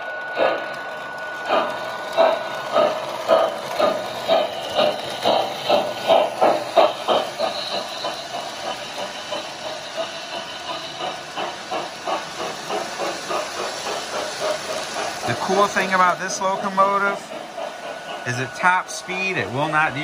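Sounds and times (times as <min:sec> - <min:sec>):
model steam locomotive chuffing: 0:00.0 - 0:20.0
steam hiss: 0:00.0 - 0:20.0.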